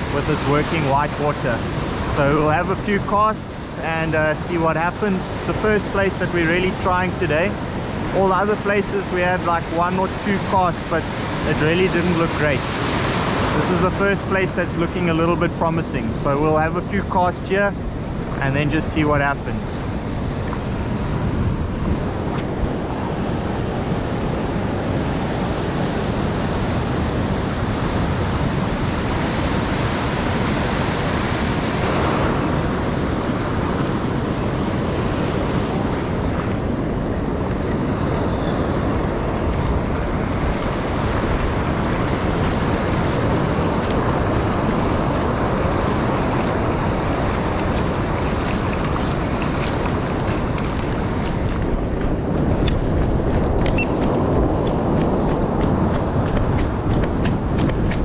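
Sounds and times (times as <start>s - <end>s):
waves breaking on sand: 0.0s - 58.0s.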